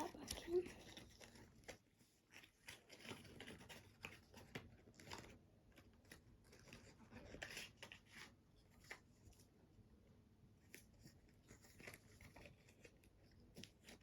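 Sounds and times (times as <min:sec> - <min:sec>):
paper and plastic rustling: 0:00.0 - 0:09.6, 0:10.5 - 0:14.0.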